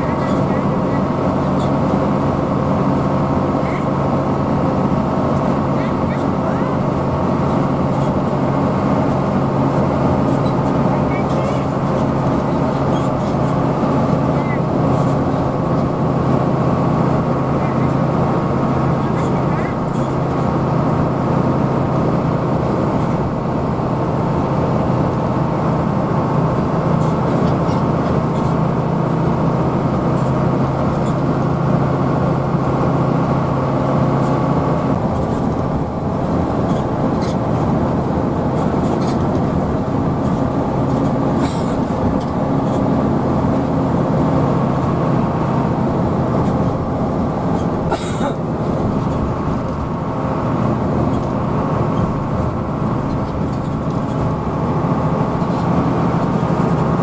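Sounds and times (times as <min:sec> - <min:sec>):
bus diesel engine drone: 0:00.0 - 0:57.0
road noise: 0:00.0 - 0:57.0.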